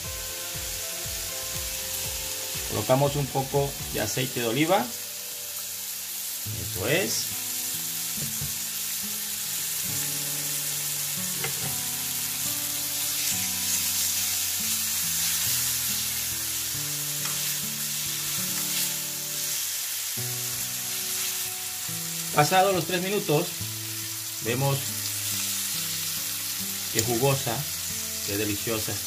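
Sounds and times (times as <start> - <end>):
background music of held notes: 0.0 - 29.0
steaks sizzling in oil: 0.0 - 29.0.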